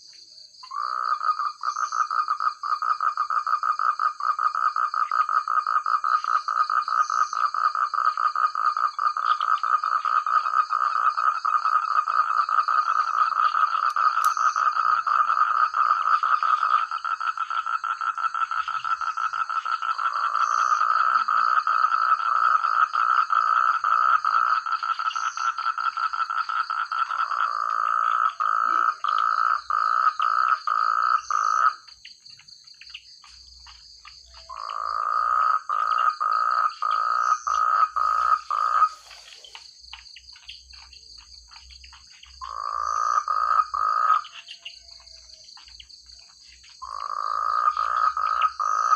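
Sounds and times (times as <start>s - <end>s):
frogs croaking: 0.0s - 48.9s.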